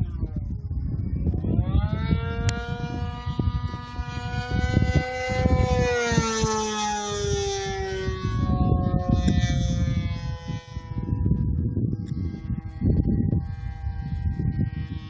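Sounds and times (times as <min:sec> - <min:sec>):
model plane engine whining: 0:00.0 - 0:15.0
wind rumbling on microphone: 0:00.0 - 0:15.0.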